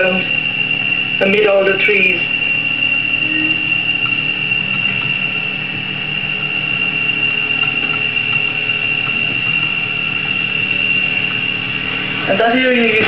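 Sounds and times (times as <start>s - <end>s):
high-pitched whine: 0.0s - 13.0s
mechanical whirr with hiss: 0.0s - 13.0s.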